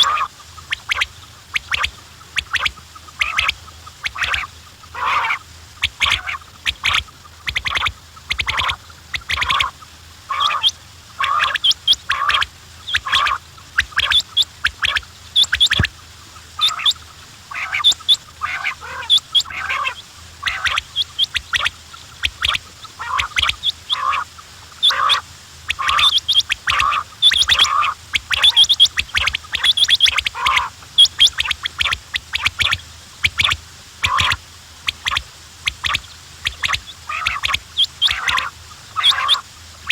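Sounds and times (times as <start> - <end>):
faint low hum: 0.0 - 39.9
quails calling: 0.0 - 39.9.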